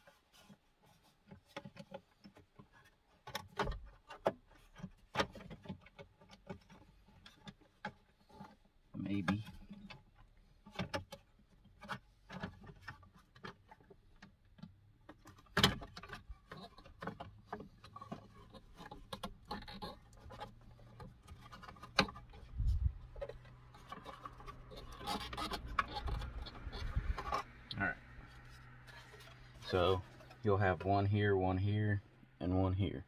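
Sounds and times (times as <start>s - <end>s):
handling rustles: 0.0s - 31.1s.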